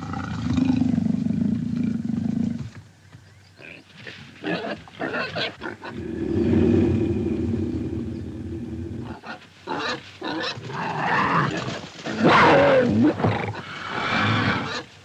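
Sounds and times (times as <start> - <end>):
animals growling and snarling: 0.0 - 2.8, 4.4 - 14.8.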